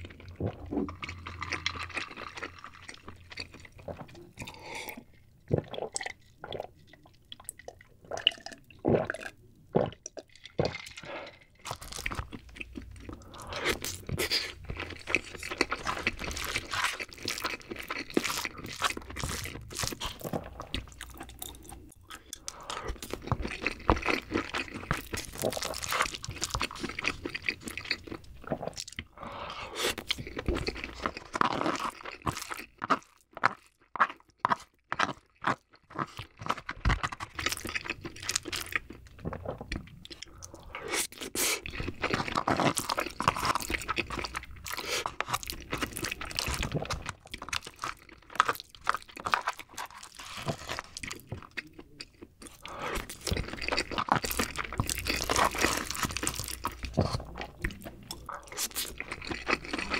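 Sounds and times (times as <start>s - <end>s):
wet chewing and mouth sounds: 0.0s - 59.9s.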